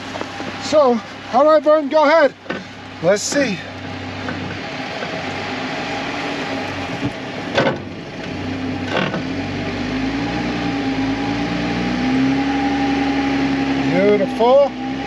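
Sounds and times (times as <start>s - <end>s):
vehicle engine running at low speed: 0.0s - 15.0s.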